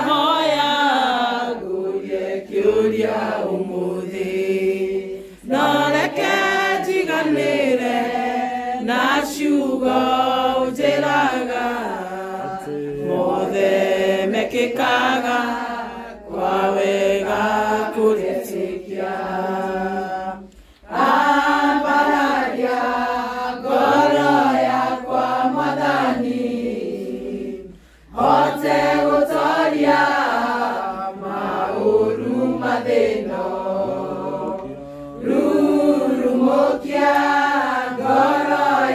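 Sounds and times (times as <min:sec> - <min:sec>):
group singing a hymn: 0:00.0 - 0:38.9.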